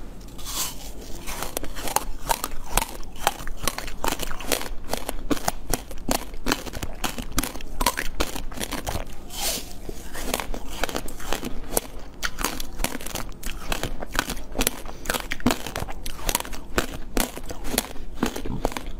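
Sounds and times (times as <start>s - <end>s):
person chewing crunchy food: 0.0s - 18.9s.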